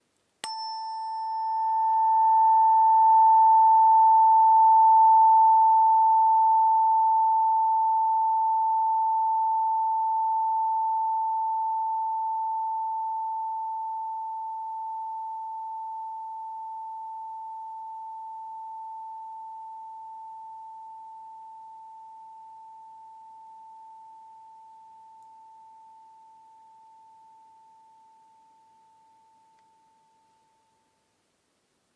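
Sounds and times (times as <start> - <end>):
faint higher overtone: 0.4 - 30.9
tuning fork ringing: 0.4 - 30.9.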